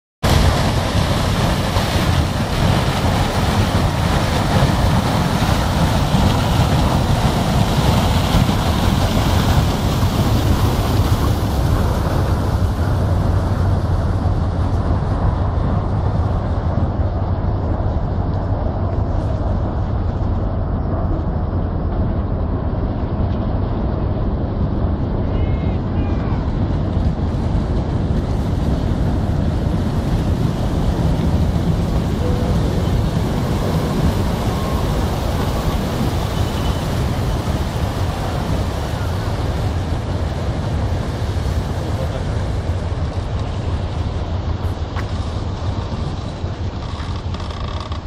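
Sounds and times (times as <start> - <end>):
ship engine drone: 0.2 - 48.0.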